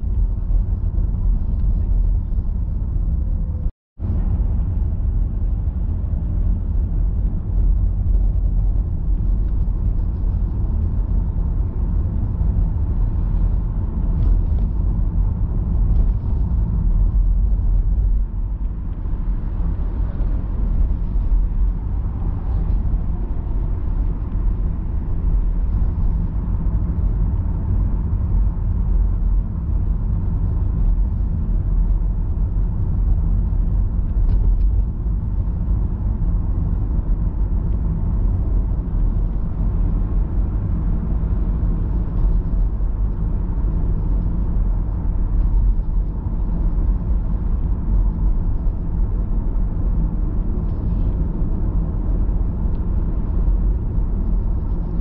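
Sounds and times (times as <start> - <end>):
car engine rumble: 0.0 - 55.0
tyre road noise: 0.0 - 55.0.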